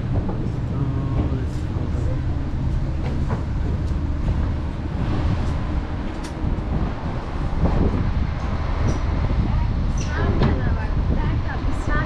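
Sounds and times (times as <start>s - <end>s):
ferry engines rumbling: 0.0s - 12.0s.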